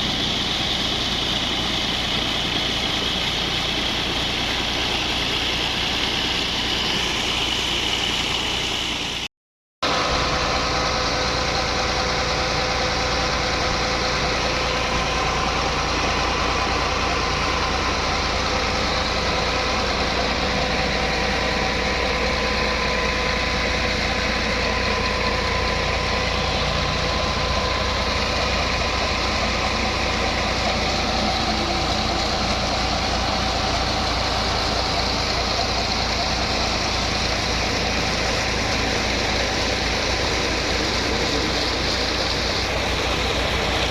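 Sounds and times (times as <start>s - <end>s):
mechanical whine: 0.0s - 43.9s
tractor engine rumbling: 0.0s - 43.9s.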